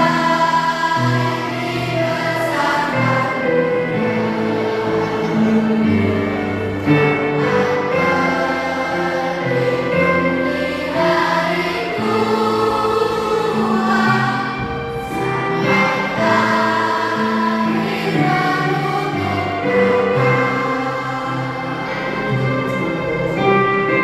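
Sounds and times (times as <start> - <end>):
children's choir singing: 0.0 - 24.0
instrumental accompaniment: 0.0 - 24.0.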